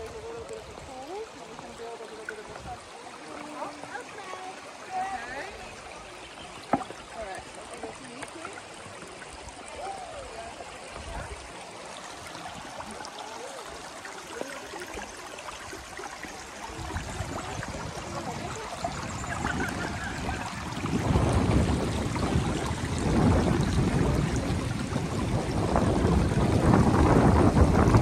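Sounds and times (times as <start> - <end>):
river water babbling over stones: 0.0 - 28.0.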